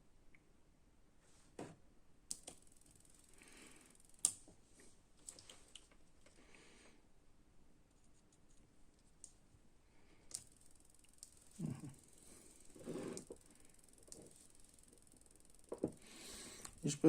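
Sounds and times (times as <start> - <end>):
faint high whine: 2.3 - 7.1, 7.9 - 17.0.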